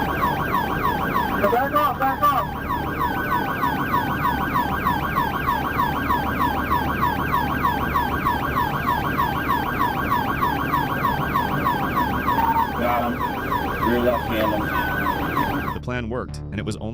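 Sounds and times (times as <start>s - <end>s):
police siren yelping: 0.0s - 15.8s.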